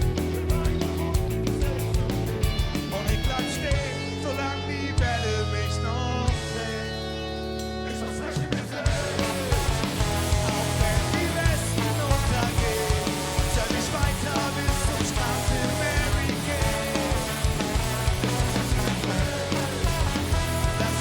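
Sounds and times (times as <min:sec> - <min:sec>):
bass guitar: 0:00.0 - 0:21.0
drums: 0:00.0 - 0:21.0
electric guitar: 0:00.0 - 0:21.0.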